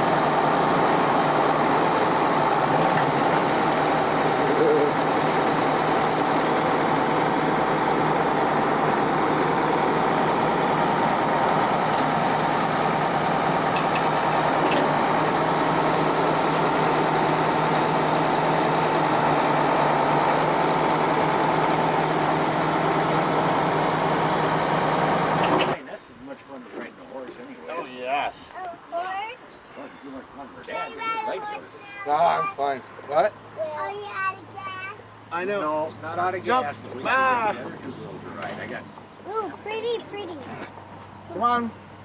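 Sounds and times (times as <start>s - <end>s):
vehicle engine running: 0.0s - 25.8s, 30.6s - 42.0s.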